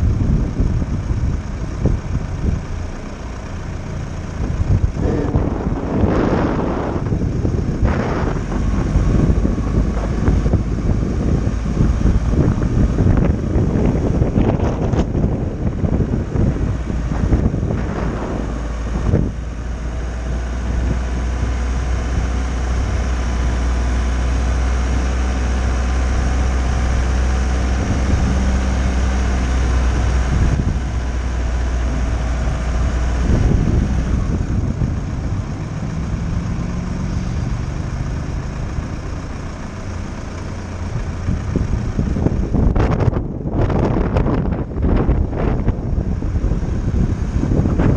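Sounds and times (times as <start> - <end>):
van engine running: 0.0 - 47.9
wind rumbling on microphone: 0.0 - 47.9.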